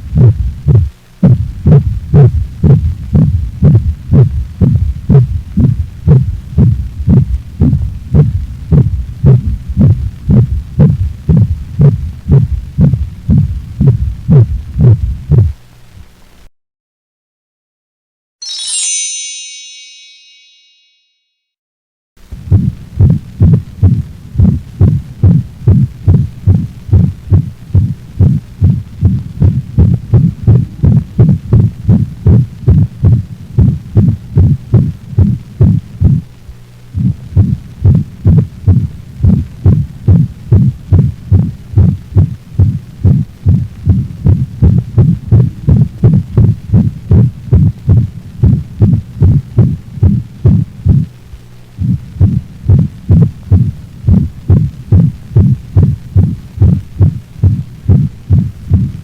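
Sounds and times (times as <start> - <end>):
dog heartbeat: 0.0 - 15.6, 22.4 - 36.2, 37.0 - 51.1, 51.8 - 59.0
steady low hum: 0.0 - 16.5, 22.2 - 59.0.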